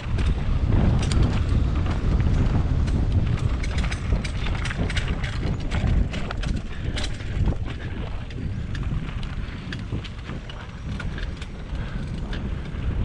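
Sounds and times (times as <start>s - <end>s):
bike rattling over bumps: 0.0s - 13.0s
wind buffeting microphone: 0.0s - 13.0s.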